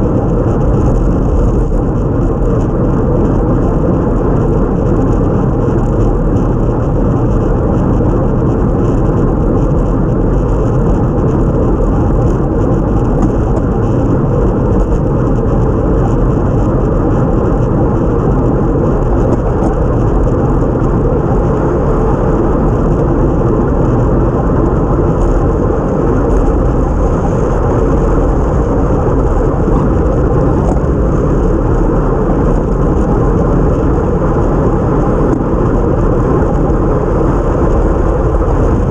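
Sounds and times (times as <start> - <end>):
tyre noise on wet road: 0.0 - 38.9
wind buffeting microphone: 0.0 - 38.9.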